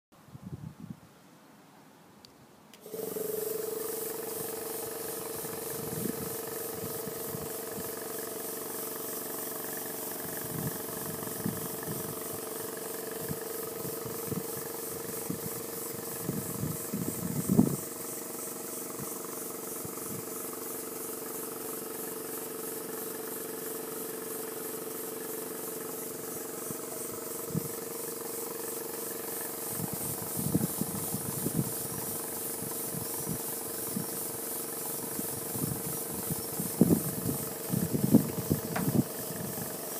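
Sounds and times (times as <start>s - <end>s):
model steam engine hissing exhaust: 2.8s - 39.9s
steady hum: 2.8s - 39.9s.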